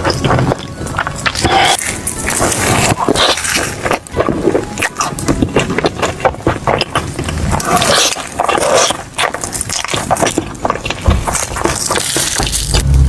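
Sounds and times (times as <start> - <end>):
person chewing and slurping: 0.0 - 13.0.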